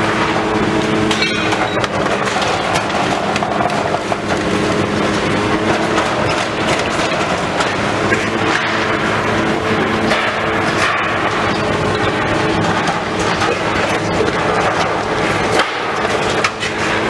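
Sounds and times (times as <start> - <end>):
building material crunching and clattering: 0.0 - 17.0
diesel engine running under load: 0.0 - 17.0.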